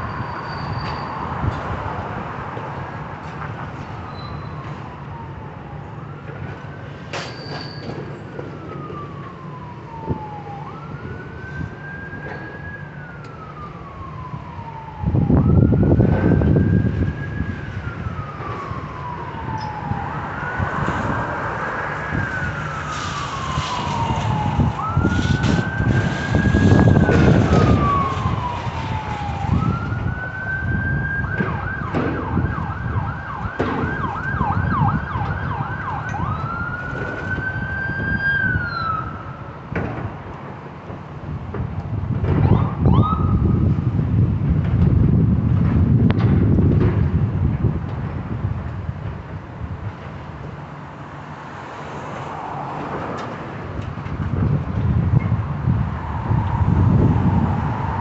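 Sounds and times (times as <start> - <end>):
emergency siren wailing: 0.0 - 58.0.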